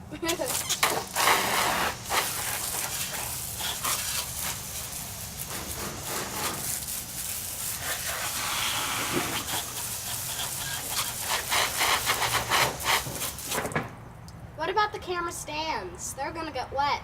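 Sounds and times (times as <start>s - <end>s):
garden hose spraying water: 0.0s - 14.1s.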